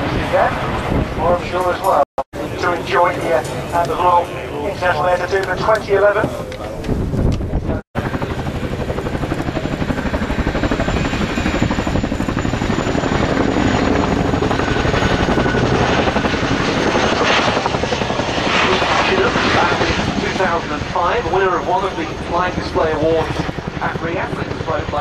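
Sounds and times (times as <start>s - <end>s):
helicopter rotors beating: 0.0s - 25.0s
helicopter turbine noise: 0.0s - 25.0s.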